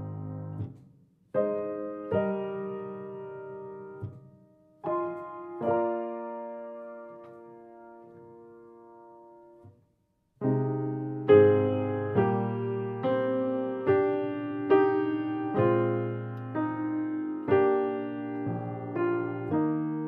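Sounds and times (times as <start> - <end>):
slow piano chords: 0.0 - 9.7, 10.4 - 20.0.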